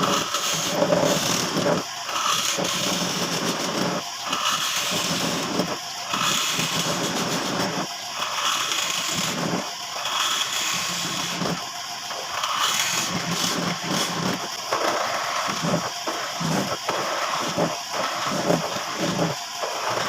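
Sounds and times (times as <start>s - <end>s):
power tool cutting into wood: 0.0s - 20.0s.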